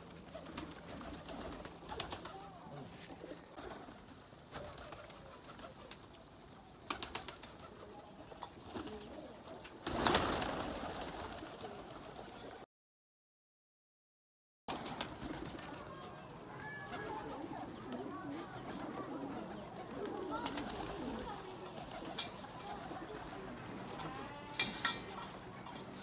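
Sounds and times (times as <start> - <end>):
pigeons cooing: 0.0 - 12.6, 14.7 - 26.0.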